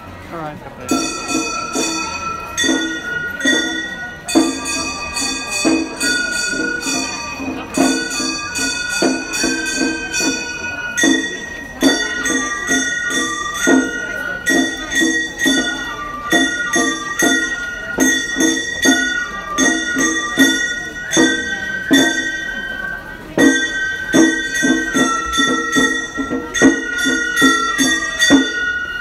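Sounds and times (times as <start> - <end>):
small gongs clanging: 0.8 - 29.0
bamboo flute melody: 1.2 - 29.0.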